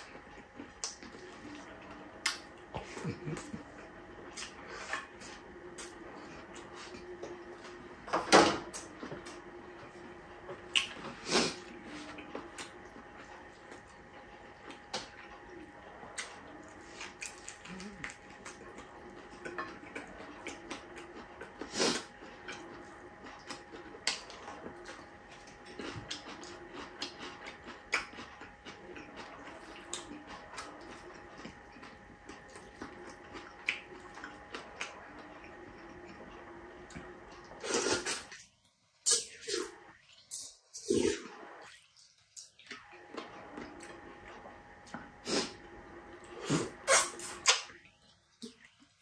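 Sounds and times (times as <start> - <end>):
person chewing: 0.0 - 7.9, 8.7 - 45.6
faint steady hum: 0.0 - 49.0.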